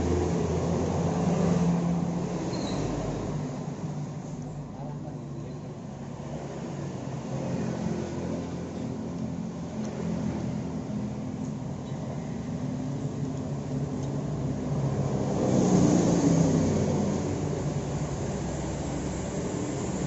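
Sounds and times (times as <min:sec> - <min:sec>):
engine running steadily: 0:03.1 - 0:20.0.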